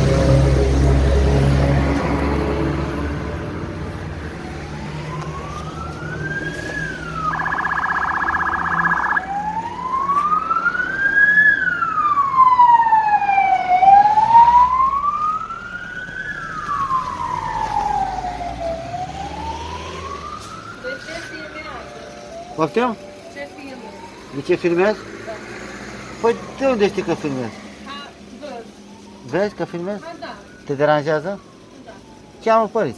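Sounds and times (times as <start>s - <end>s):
low rumble of traffic: 0.0s - 32.9s
police siren wailing: 2.0s - 25.5s, 26.2s - 32.9s.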